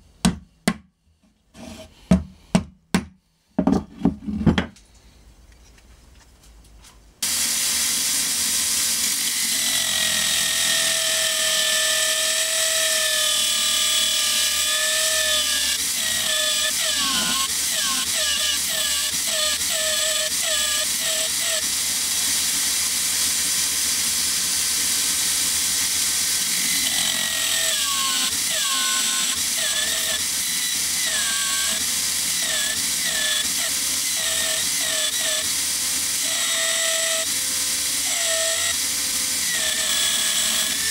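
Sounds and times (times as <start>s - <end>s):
drill whine: 7.2s - 40.9s.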